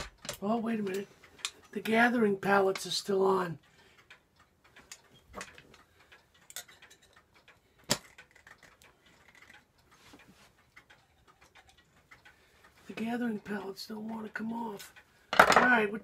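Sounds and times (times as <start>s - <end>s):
tool clicking on clock movement: 0.0s - 16.0s.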